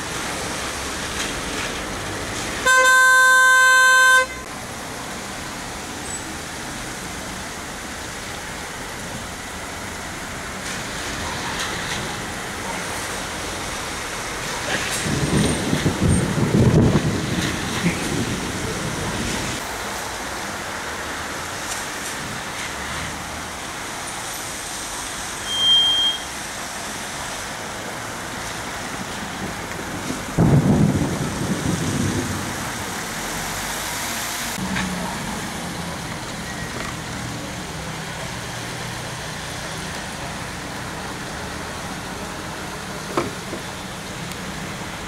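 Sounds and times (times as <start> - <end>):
road traffic on wet street: 0.0 - 45.0.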